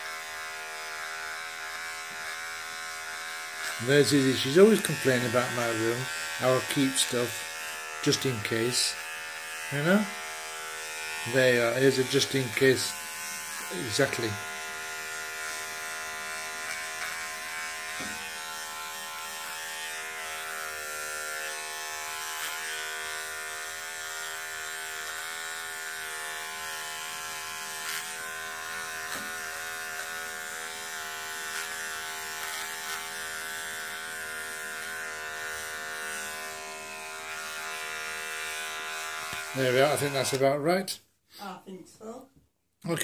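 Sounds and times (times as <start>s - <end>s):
electric trimmer buzzing: 0.0s - 40.6s.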